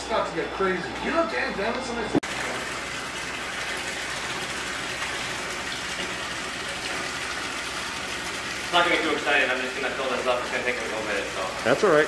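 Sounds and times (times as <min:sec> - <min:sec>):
water gushing into a tank: 0:02.2 - 0:12.0.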